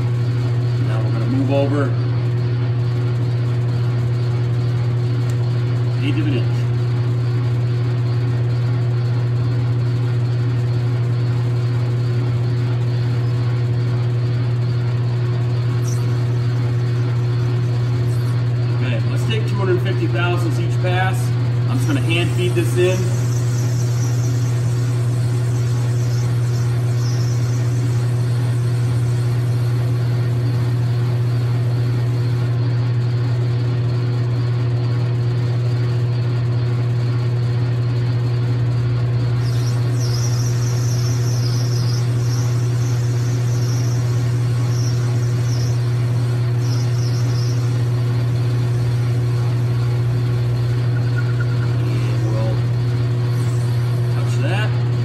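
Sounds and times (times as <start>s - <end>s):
lathe motor humming: 0.0s - 55.0s.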